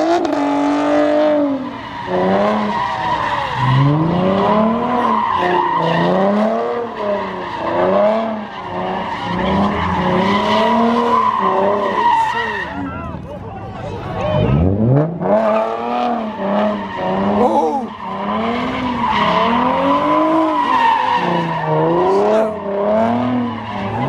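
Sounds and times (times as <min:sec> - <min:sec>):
car engine revving: 0:00.0 - 0:12.9, 0:14.1 - 0:24.0
tire squeal: 0:00.0 - 0:13.2, 0:14.1 - 0:24.0.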